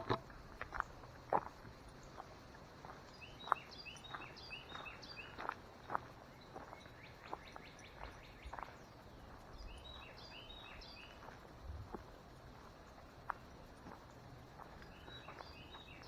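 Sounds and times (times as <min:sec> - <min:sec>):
faint footsteps on a trail: 0:00.0 - 0:16.0.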